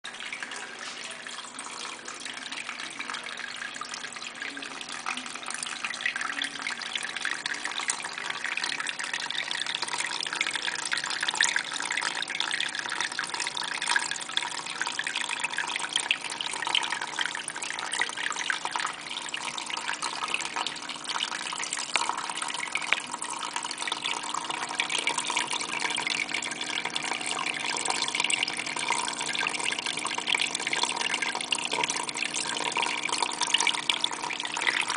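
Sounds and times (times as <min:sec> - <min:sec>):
water trickling and dripping: 0:00.1 - 0:34.9.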